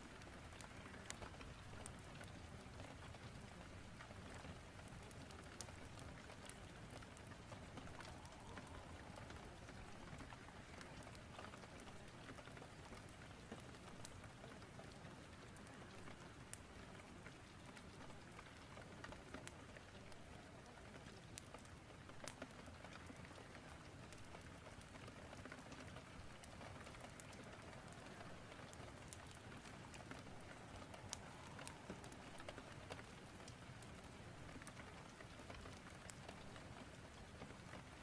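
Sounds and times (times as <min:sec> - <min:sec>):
faint rain: 0:00.0 - 0:38.0
fire crackling: 0:00.0 - 0:38.0.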